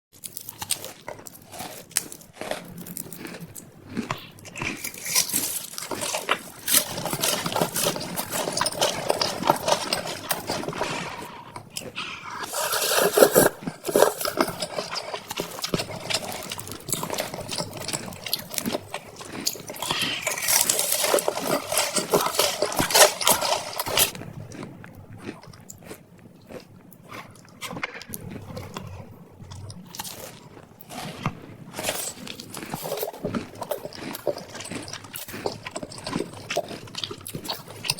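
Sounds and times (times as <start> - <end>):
chewing and crunching food: 0.1 - 37.9.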